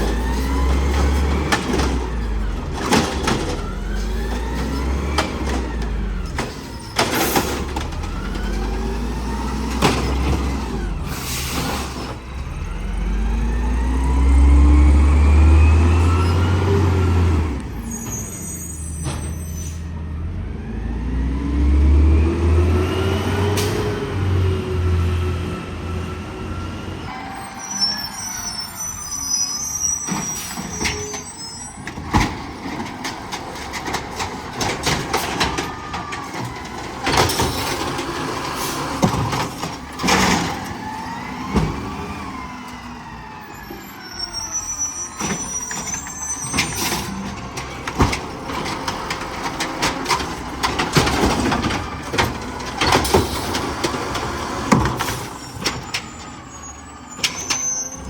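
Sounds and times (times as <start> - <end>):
garbage truck clanks and bangs: 0.0 - 58.0.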